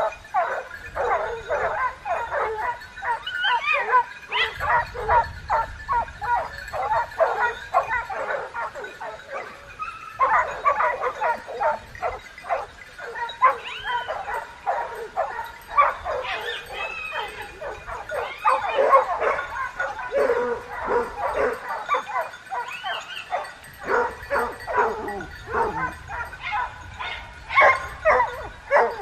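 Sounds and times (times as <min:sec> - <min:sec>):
hunting dogs barking and baying: 0:00.0 - 0:29.0.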